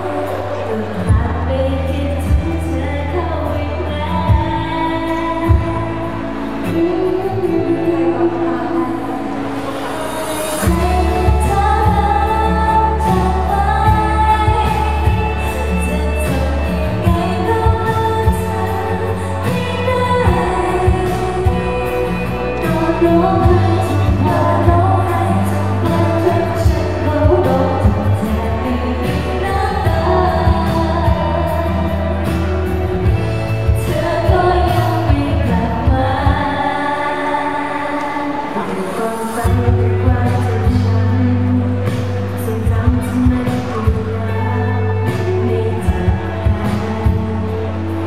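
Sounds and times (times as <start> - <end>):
pop backing track with drums: 0.0 - 48.0
woman singing pop vocals: 0.0 - 48.0.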